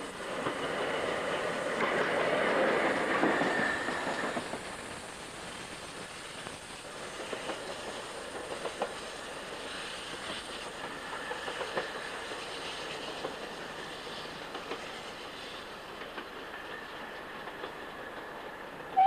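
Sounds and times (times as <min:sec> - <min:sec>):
steam train running on track: 0:00.0 - 0:19.0.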